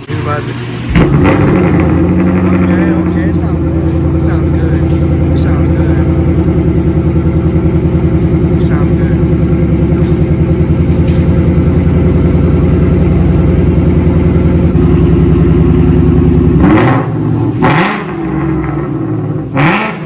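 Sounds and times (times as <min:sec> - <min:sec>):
car engine idling: 0:00.0 - 0:20.0
engine revving: 0:00.0 - 0:20.0.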